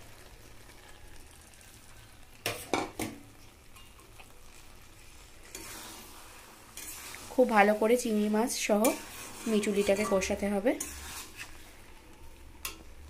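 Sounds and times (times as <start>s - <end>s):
shrimp sizzling in pan: 0.0s - 13.0s.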